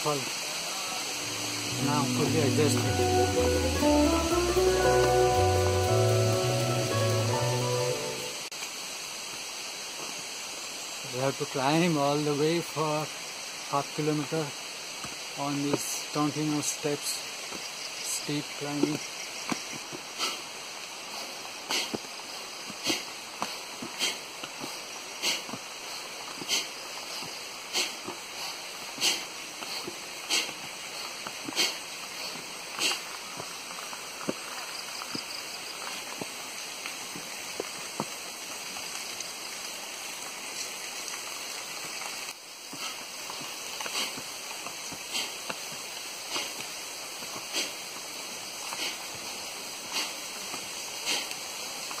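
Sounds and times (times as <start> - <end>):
running water rushing: 0.0 - 52.0.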